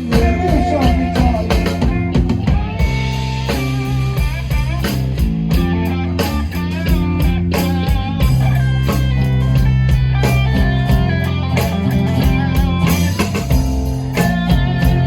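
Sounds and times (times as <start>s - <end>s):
bass: 0.0s - 15.0s
electric guitar lead: 0.0s - 15.0s
steady drum beat: 0.0s - 15.0s.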